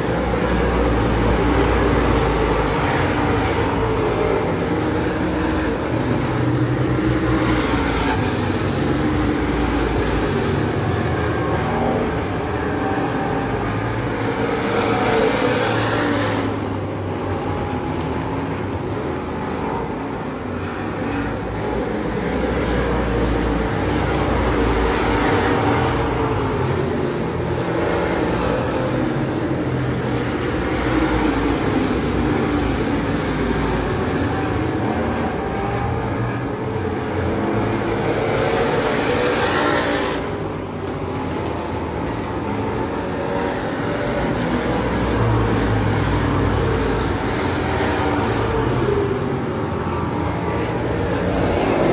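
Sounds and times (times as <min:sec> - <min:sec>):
race car engines droning: 0:00.0 - 0:51.9.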